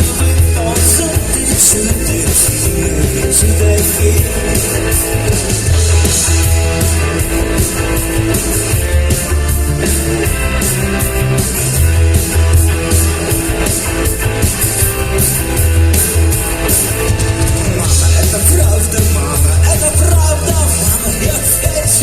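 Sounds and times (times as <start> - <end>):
bass guitar: 0.0 - 22.0
drum kit: 0.0 - 22.0
electric guitar: 0.0 - 22.0.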